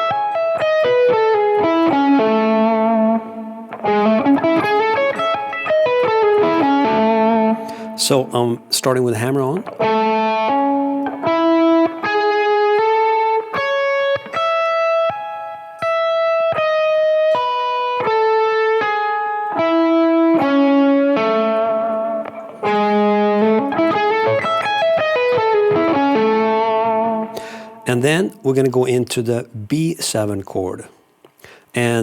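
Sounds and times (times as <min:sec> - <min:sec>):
electric guitar arpeggio: 0:00.0 - 0:08.7, 0:09.5 - 0:27.9.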